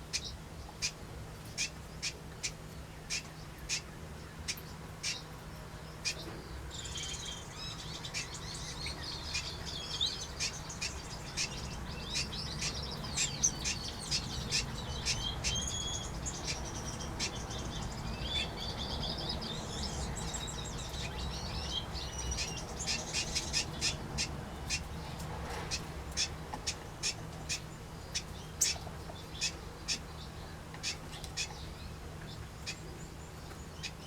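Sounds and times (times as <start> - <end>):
finches chirping and calling: 0.0 - 34.0.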